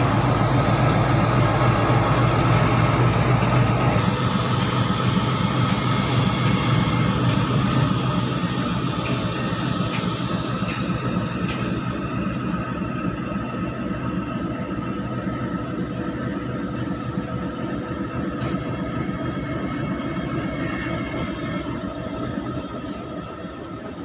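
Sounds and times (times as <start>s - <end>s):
constant whine: 0.0s - 24.0s
locomotive engine rumble: 0.0s - 24.0s.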